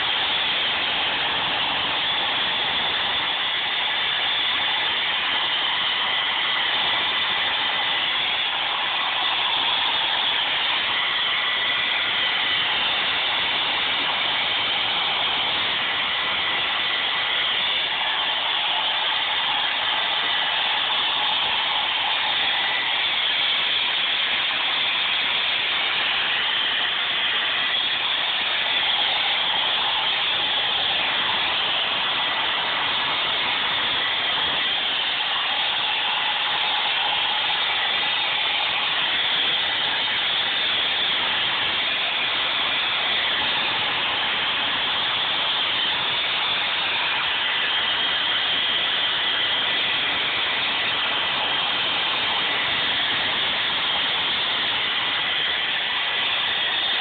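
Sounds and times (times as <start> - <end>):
blow dryer running: 0.0 - 57.0.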